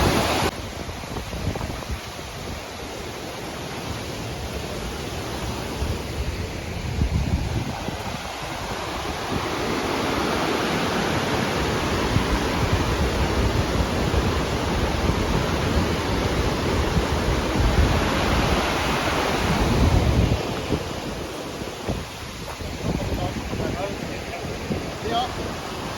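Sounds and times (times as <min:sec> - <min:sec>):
wind buffeting microphone: 0:00.0 - 0:03.0, 0:05.1 - 0:25.9.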